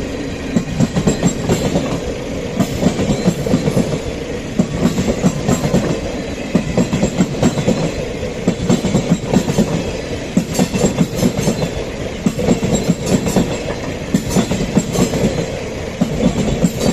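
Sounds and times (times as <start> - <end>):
train wheels rumbling on track: 0.0 - 16.9
wheels clickety-clack over rail joints: 0.0 - 16.9.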